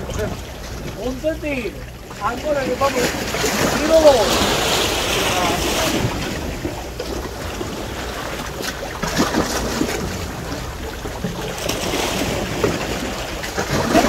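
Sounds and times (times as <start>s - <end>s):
waves splashing against concrete: 0.0s - 14.0s
wind on microphone: 0.0s - 14.0s.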